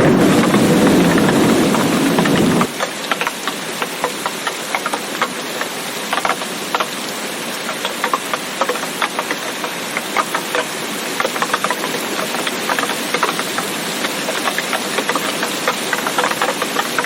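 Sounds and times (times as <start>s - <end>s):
rain hissing: 0.0s - 17.0s
raindrops tapping: 0.0s - 17.0s.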